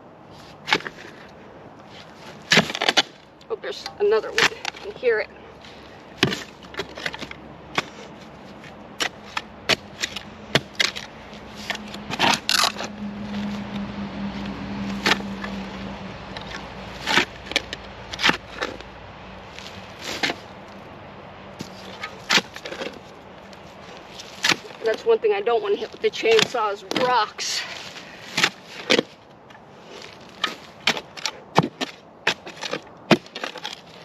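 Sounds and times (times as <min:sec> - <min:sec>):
digging tool scraping rocks: 0:00.3 - 0:13.8, 0:14.9 - 0:15.6, 0:16.3 - 0:20.6, 0:21.6 - 0:34.0.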